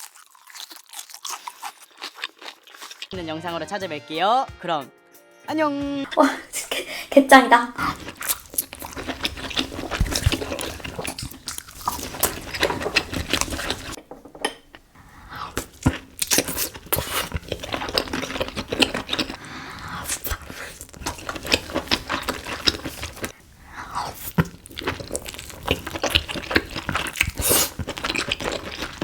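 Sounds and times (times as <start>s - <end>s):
wet food handling: 0.0s - 3.2s, 7.8s - 29.0s.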